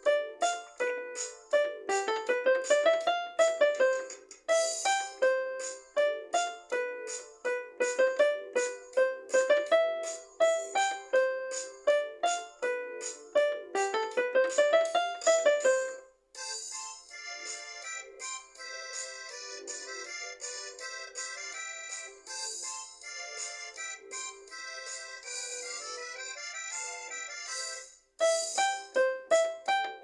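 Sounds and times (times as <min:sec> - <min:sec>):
keyboard instrument melody: 0:00.0 - 0:30.0.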